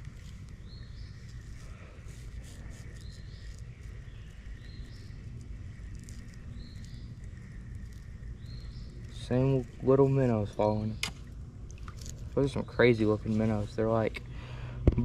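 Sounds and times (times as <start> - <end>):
insects droning: 0.0 - 14.8
low rumble: 0.0 - 15.0.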